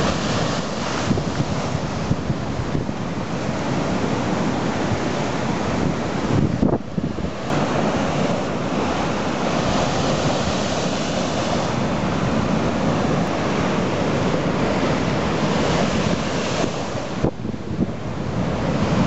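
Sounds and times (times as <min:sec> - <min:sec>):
waves crashing: 0:00.0 - 0:19.0
wind buffeting microphone: 0:00.0 - 0:19.0.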